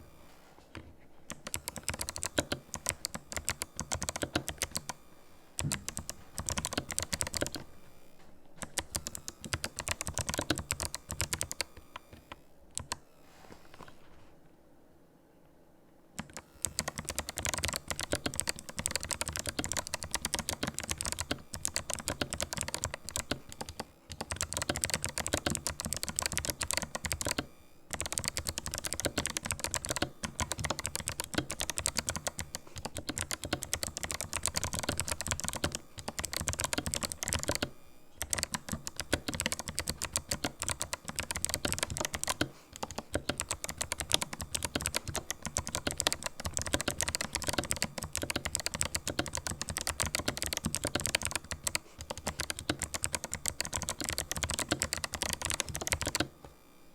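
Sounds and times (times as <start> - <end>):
mechanical keyboard typing: 1.3 - 5.0, 5.6 - 7.7, 8.6 - 13.0, 16.2 - 56.4.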